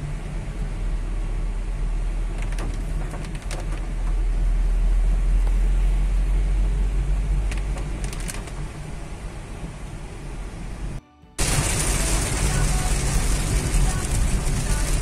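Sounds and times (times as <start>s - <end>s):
car engine and tyres on wet road: 0.0s - 15.0s.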